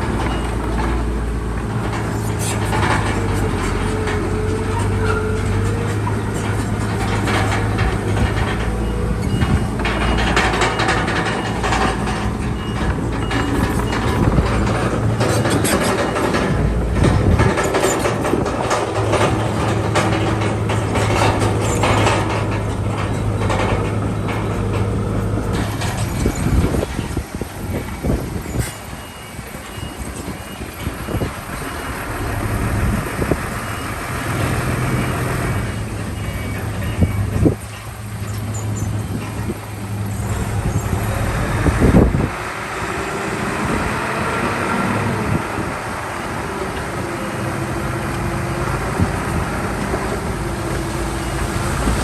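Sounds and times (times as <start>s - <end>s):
bulldozer diesel engine under load: 0.0s - 52.0s
steel tracks clattering: 0.0s - 52.0s.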